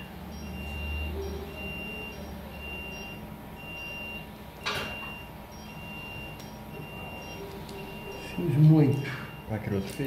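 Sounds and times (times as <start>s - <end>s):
monitor beeping: 0.0s - 10.0s.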